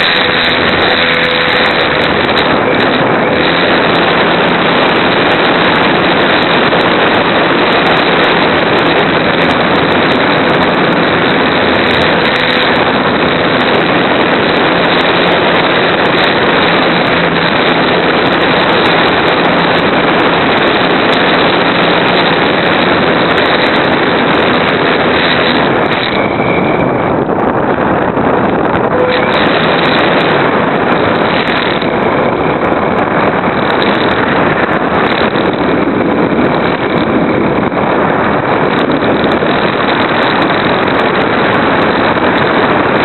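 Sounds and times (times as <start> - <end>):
faint motor hum: 0.0 - 42.6
wind and propeller rushing: 0.0 - 43.0.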